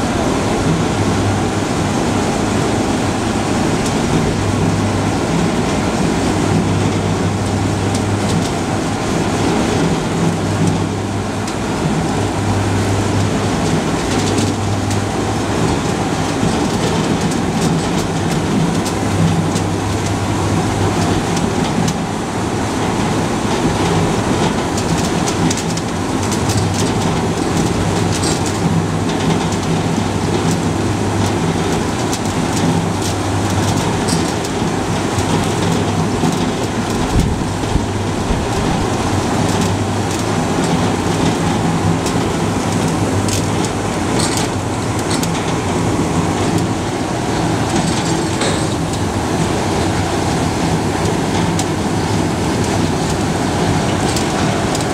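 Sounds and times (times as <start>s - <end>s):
machine motors and rollers running: 0.0s - 54.9s.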